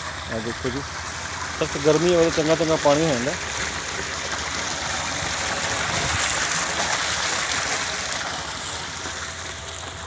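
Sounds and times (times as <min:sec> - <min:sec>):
water gushing into a tank: 0:00.0 - 0:10.0.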